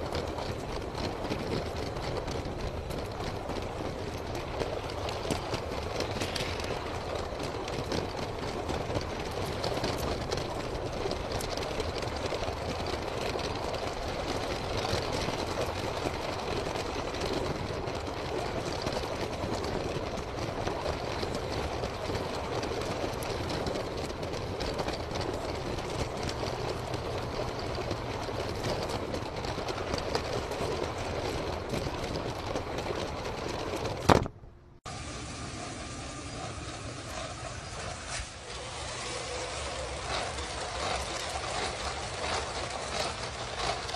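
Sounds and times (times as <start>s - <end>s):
toy train rattling whir: 0.0s - 34.0s, 35.7s - 43.9s.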